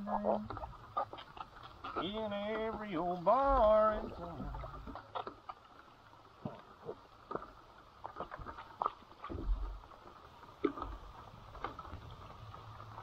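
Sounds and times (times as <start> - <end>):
small clicks and knocks of gear: 0.4 - 3.7, 4.6 - 13.0.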